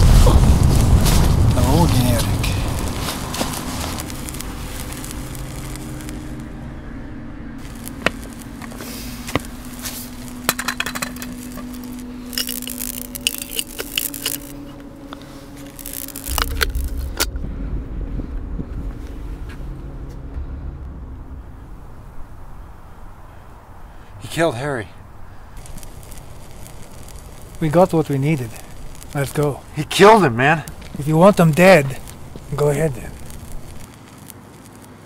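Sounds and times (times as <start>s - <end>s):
electrical crackles and zaps: 0.0s - 6.7s, 7.6s - 35.0s
deep rumble: 0.0s - 34.3s
low steady hum: 0.0s - 34.6s.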